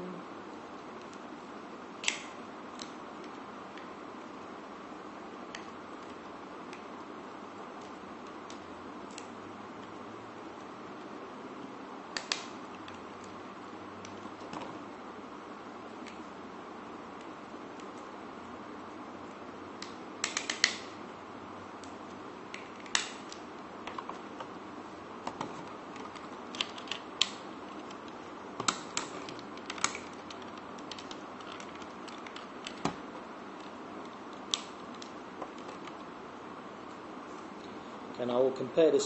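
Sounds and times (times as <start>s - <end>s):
steady low hiss: 0.0s - 39.0s.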